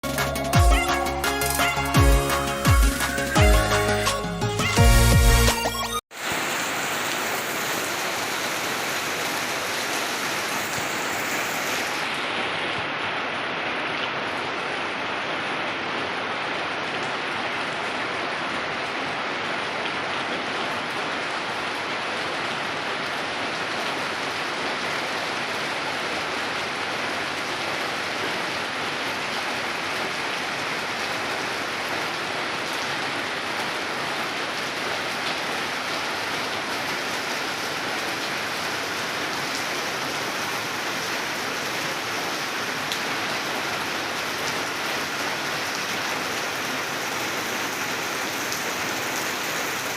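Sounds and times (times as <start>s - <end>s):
steady rain falling: 6.1s - 49.9s.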